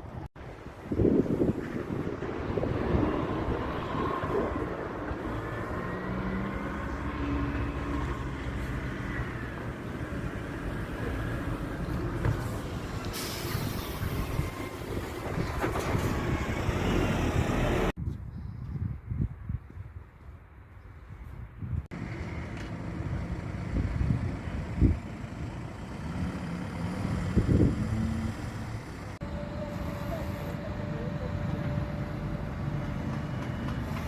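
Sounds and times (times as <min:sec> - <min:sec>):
large road vehicle rumbling: 0:00.0 - 0:18.0, 0:21.8 - 0:34.0.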